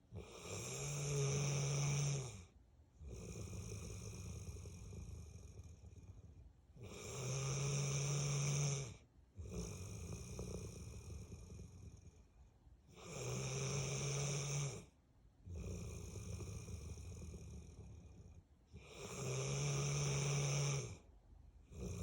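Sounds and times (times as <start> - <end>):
dog snoring: 0.1 - 12.3, 12.9 - 22.0.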